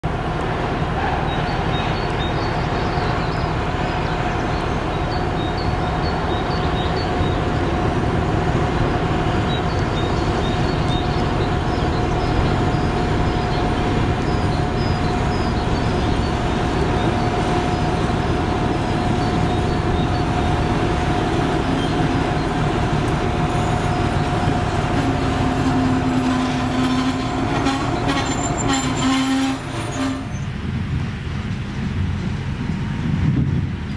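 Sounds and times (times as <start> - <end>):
diesel locomotive engine rumble: 0.0 - 33.9.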